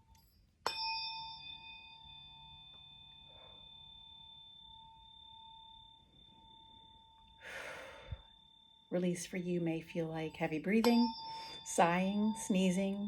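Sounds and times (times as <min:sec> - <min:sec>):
tuning fork ringing: 0:00.0 - 0:13.0.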